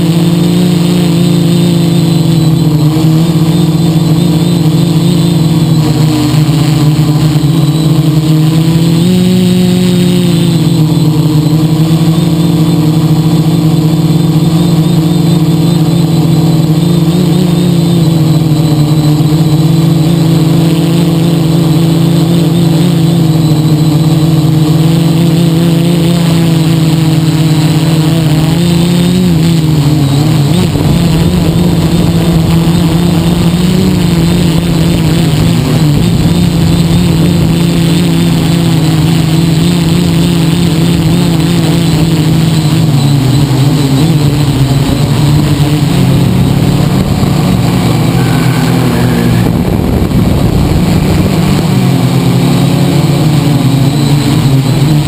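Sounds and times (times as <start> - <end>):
drone propellers whirring: 0.0 - 55.0.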